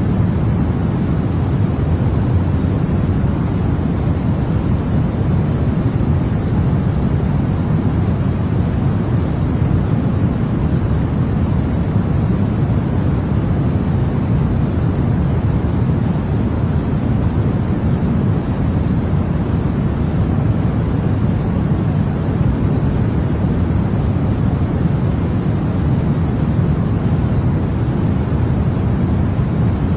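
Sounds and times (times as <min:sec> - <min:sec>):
white noise rushing hiss: 0:00.0 - 0:29.9.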